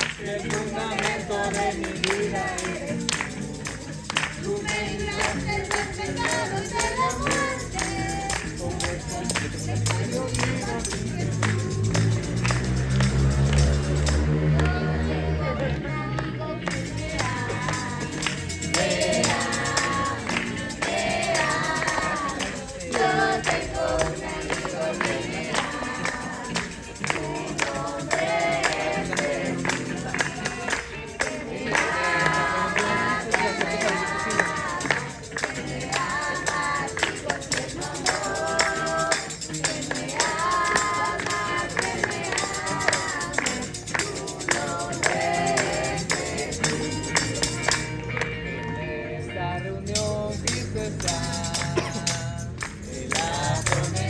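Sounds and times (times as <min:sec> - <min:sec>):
rhythmic percussion: 0:00.0 - 0:49.1, 0:49.8 - 0:54.0
group singing: 0:00.0 - 0:54.0.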